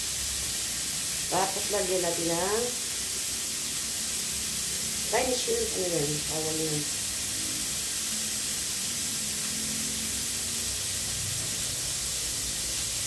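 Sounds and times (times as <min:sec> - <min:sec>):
meat and shrimp sizzling: 0:00.0 - 0:13.0.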